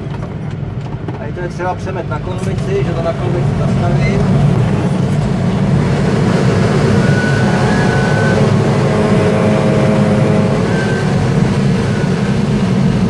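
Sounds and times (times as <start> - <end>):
airflow rushing around cockpit: 0.0 - 13.0.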